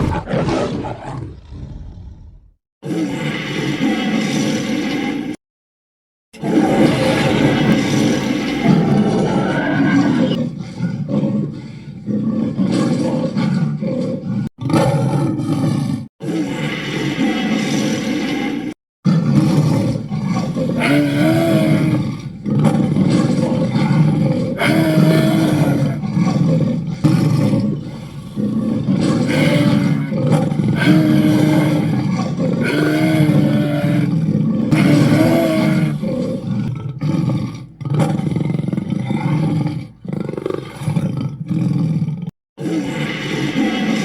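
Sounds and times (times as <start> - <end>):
dragon roars: 0.0 - 5.4, 6.4 - 44.0.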